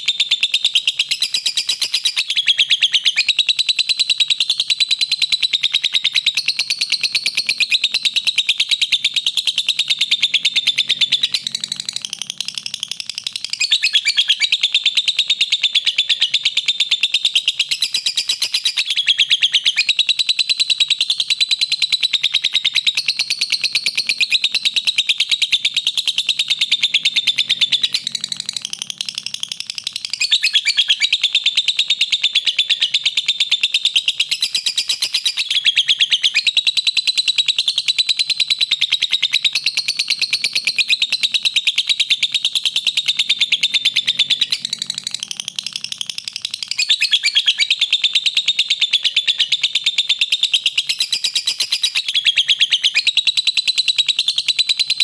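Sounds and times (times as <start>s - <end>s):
lovebird chirping: 0.0s - 55.0s.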